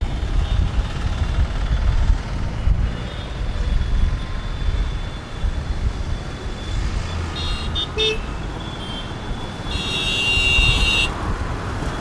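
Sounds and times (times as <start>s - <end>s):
heavy road traffic rumble: 0.0s - 12.0s.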